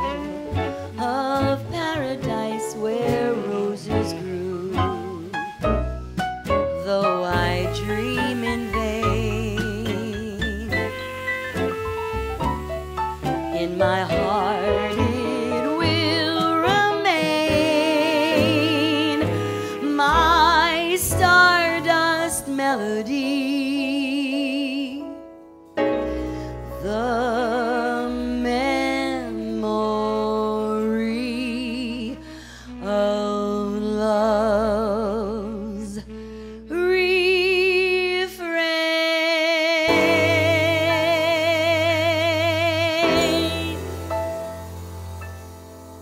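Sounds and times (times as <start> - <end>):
woman singing with vibrato: 0.0 - 5.5, 6.8 - 12.6, 13.3 - 25.1, 26.7 - 44.8
small jazz band: 0.0 - 46.0.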